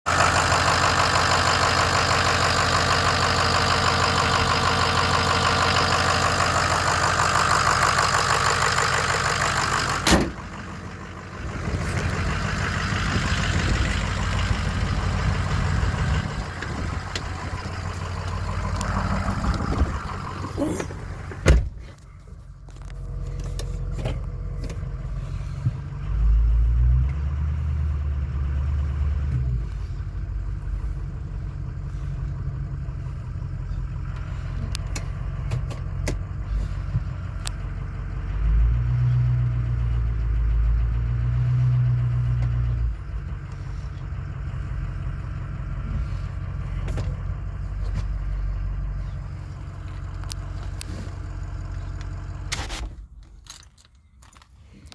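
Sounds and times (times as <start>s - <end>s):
pickup engine idling and revving: 0.0s - 54.9s.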